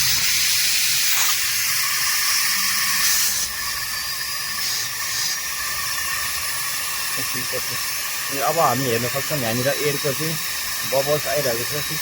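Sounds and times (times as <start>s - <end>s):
compressed air blow gun hissing: 0.0s - 12.0s.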